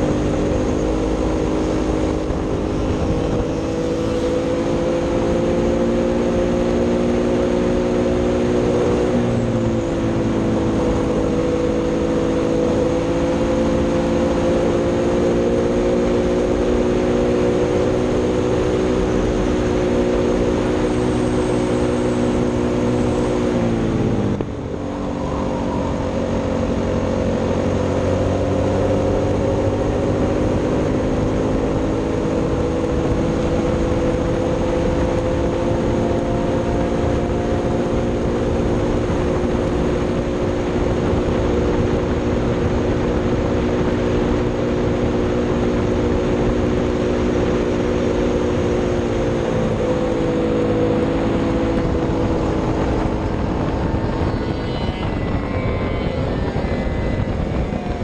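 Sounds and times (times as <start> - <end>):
racing kart engine: 0.0 - 58.0.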